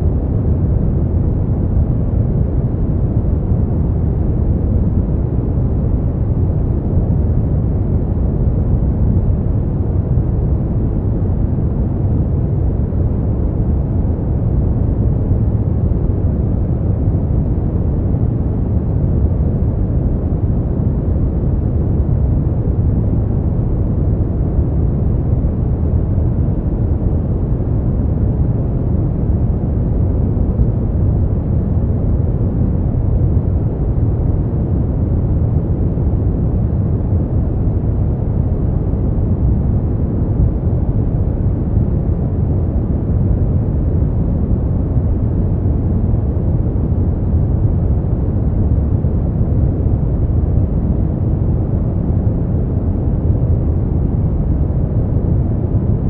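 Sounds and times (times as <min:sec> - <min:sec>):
deep rumbling noise: 0:00.0 - 0:56.0.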